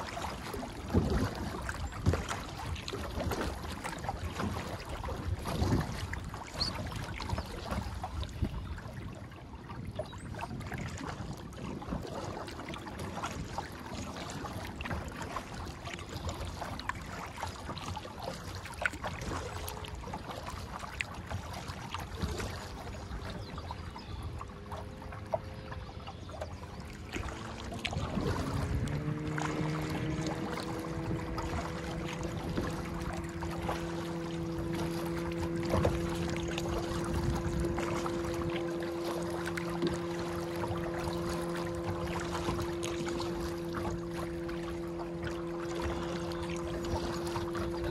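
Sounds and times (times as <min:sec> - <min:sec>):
paddle drips and splashes: 0:00.0 - 0:47.9
water lapping against a hull: 0:00.0 - 0:47.9
wind rumble on microphone: 0:00.0 - 0:47.9.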